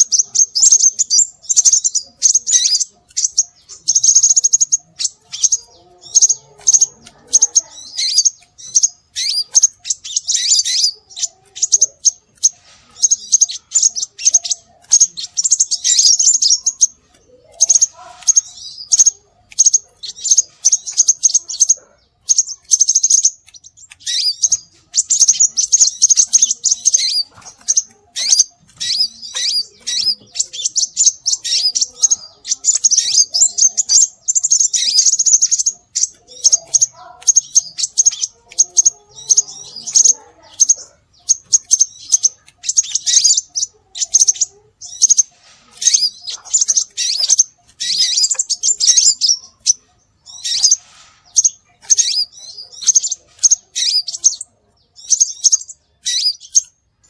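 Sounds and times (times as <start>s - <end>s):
bird rapid high chirps: 0.0s - 57.0s.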